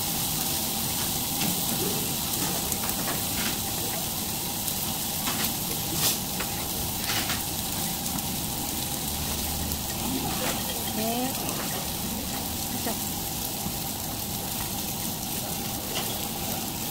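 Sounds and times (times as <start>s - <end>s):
steaks sizzling in a pan: 0.0s - 16.9s.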